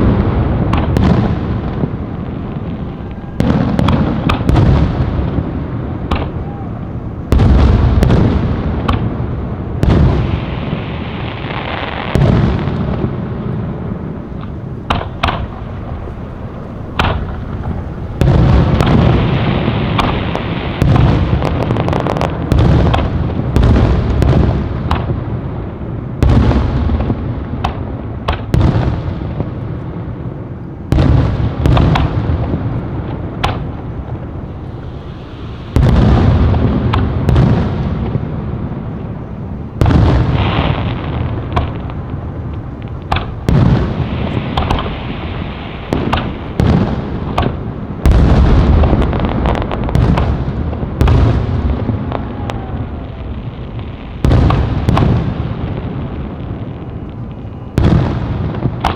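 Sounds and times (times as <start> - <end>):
fireworks booming: 0.0 - 58.9
fireworks cracking: 0.0 - 58.9.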